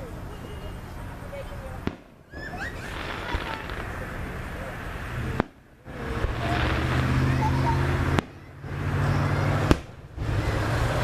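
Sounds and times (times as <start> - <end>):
firework shells bursting: 1.8 - 11.0.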